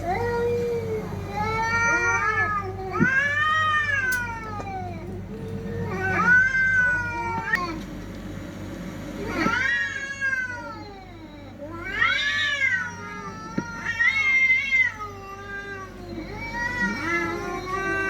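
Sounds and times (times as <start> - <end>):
cats yowling in a fight: 0.0 - 7.8, 9.2 - 18.0.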